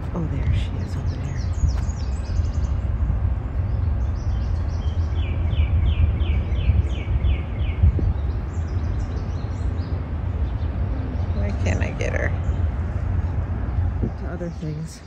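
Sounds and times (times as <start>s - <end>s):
songbirds calling: 0.0s - 15.0s
wind rumbling on microphone: 0.0s - 15.0s.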